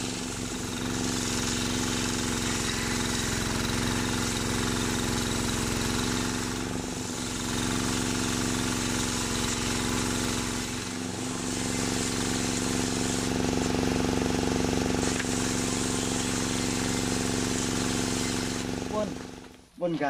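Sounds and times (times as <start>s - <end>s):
saw blade cutting log hiss: 0.0s - 19.5s
table saw motor drone: 0.0s - 19.5s.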